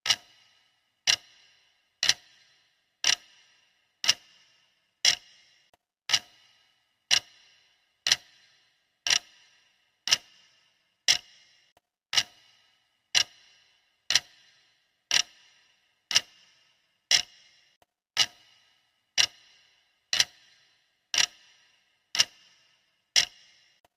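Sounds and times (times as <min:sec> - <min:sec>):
clock ticking: 0:00.0 - 0:23.9.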